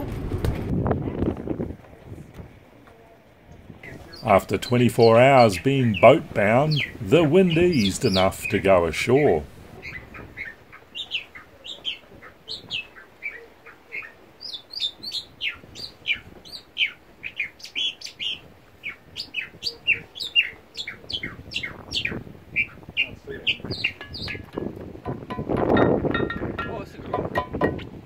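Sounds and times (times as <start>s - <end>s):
small birds chirping rapidly: 3.8s - 26.8s.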